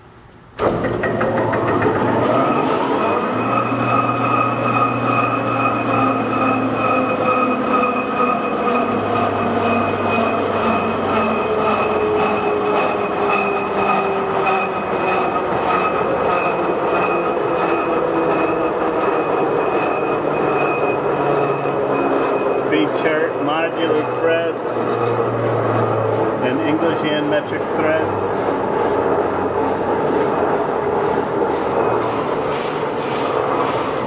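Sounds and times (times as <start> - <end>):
gear whine: 0.6 - 34.0
lathe running: 0.6 - 34.0.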